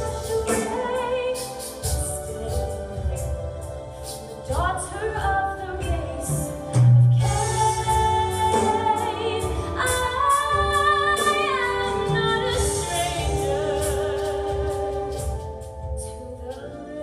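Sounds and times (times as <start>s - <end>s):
instrumental accompaniment: 0.0s - 17.0s
woman singing a ballad: 0.0s - 17.0s.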